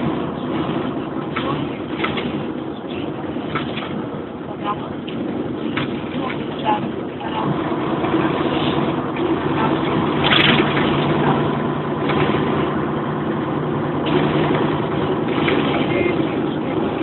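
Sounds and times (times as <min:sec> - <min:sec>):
diesel engine drone: 0:00.0 - 0:17.0
road and tyre noise: 0:00.0 - 0:17.0.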